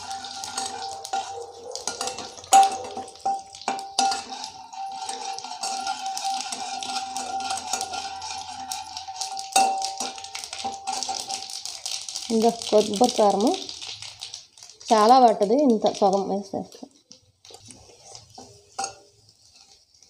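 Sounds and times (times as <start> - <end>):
spices crackling in hot oil: 0.0 - 20.0.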